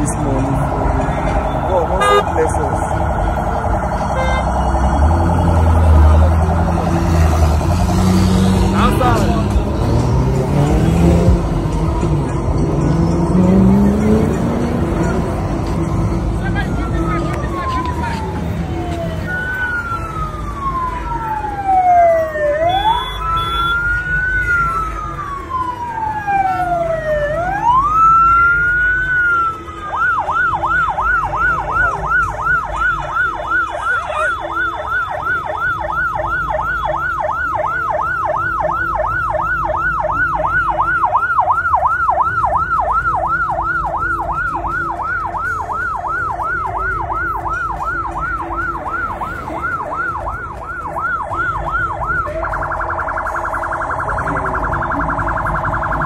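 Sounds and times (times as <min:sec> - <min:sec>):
siren wailing and yelping: 0:00.0 - 0:09.6, 0:16.5 - 0:56.0
low traffic rumble: 0:00.0 - 0:56.0.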